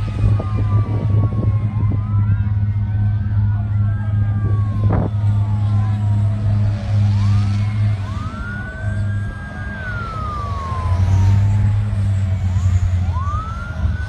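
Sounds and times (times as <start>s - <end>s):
emergency sirens wailing: 0.0s - 14.0s
steady low rumble: 0.0s - 14.0s.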